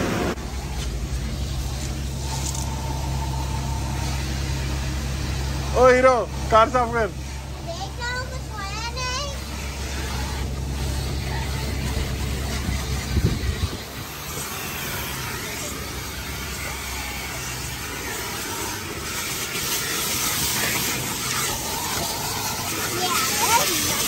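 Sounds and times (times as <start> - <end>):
vacuum hose sucking air: 0.0 - 24.0.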